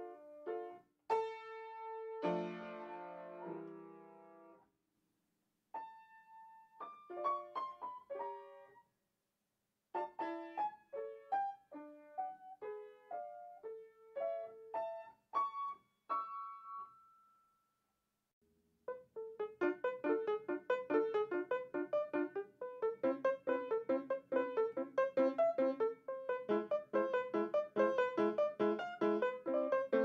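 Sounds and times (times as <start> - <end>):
slow solo piano melody: 0.0 - 4.5, 5.8 - 8.8, 10.0 - 17.5, 18.9 - 30.0.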